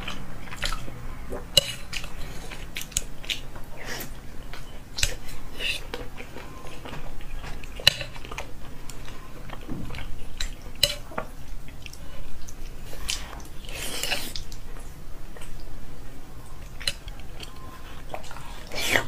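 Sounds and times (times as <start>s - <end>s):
wet chewing: 0.0s - 15.7s, 16.4s - 19.0s.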